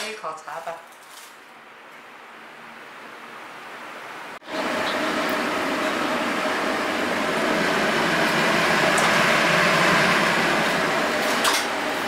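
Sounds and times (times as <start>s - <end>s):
exhaust fan whirring: 1.5s - 12.0s.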